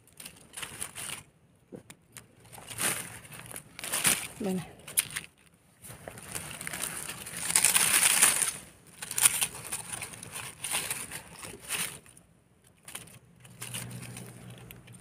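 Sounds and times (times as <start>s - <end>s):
dry leaves rustling and crackling: 0.0s - 1.3s, 2.4s - 15.0s.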